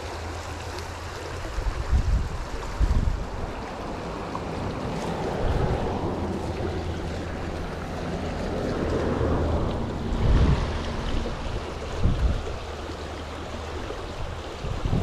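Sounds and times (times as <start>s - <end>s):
river rushing: 0.0s - 15.0s
wind buffeting microphone: 1.2s - 15.0s.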